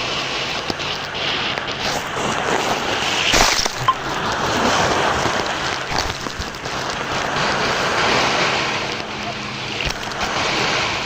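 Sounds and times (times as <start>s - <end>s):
sea surf rushing: 0.0s - 11.0s
wave breaking: 0.0s - 11.0s.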